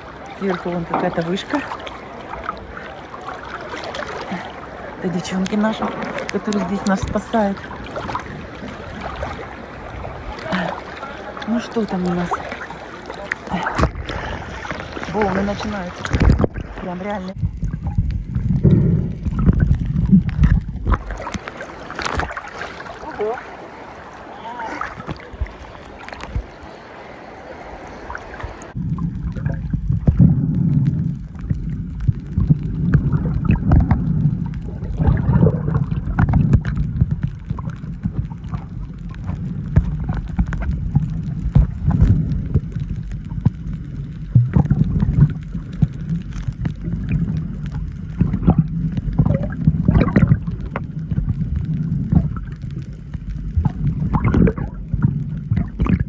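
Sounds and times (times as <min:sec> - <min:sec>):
underwater clicks: 0:00.0 - 0:23.4, 0:24.1 - 0:26.6, 0:28.1 - 0:56.0
muffled underwater rush and bubbles: 0:00.0 - 0:56.0
water sloshing: 0:00.0 - 0:56.0.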